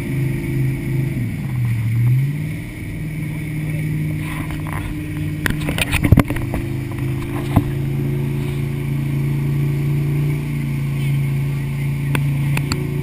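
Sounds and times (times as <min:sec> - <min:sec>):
motorboat engine running: 0:00.0 - 0:13.0
rushing wake water: 0:00.0 - 0:13.0.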